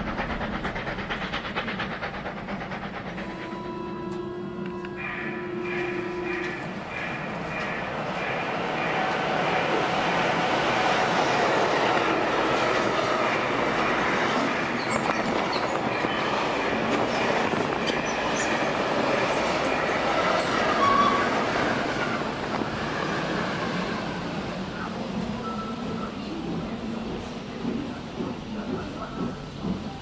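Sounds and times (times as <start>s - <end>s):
train rolling on track: 0.0s - 30.0s
train wheel squeal: 0.0s - 30.0s.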